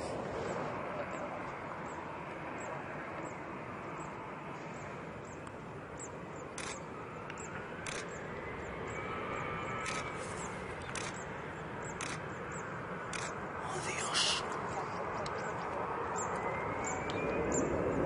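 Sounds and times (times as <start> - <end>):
faint rising whine: 0.0 - 18.0
jet airliner engine noise: 0.0 - 18.0.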